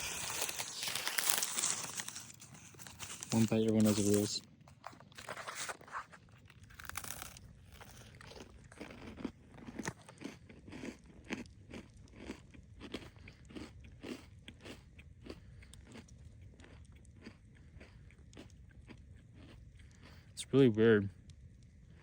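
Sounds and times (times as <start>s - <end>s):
crunching and chewing: 0.0s - 20.5s, 21.1s - 22.0s.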